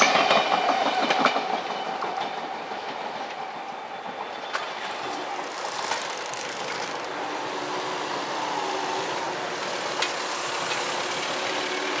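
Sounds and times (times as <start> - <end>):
traffic engines idling: 1.4 - 12.0.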